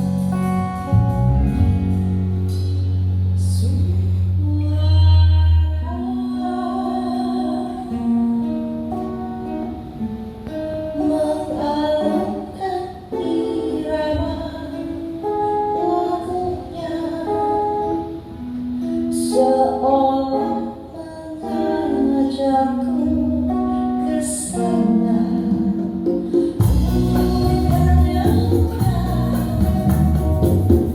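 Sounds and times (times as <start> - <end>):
plucked strings: 0.0 - 30.9
person singing: 3.4 - 9.8, 10.9 - 18.3, 19.1 - 30.9.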